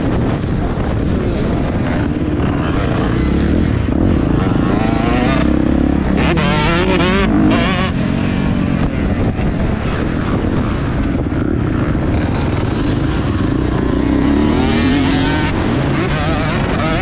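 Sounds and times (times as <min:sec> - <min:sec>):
dirt bike engine revving: 0:00.0 - 0:17.0
wind noise: 0:00.0 - 0:17.0.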